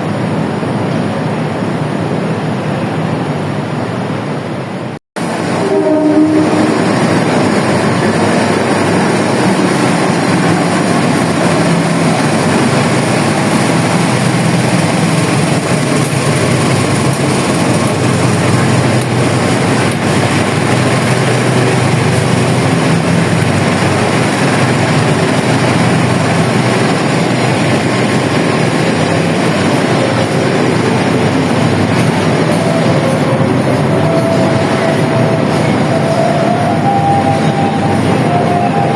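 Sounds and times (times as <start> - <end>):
passenger train rumbling on rails: 0.0 - 38.9.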